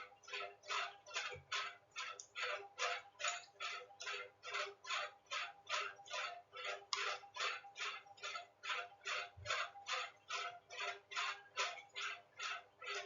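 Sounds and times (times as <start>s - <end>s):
steady ticking: 0.0s - 13.0s.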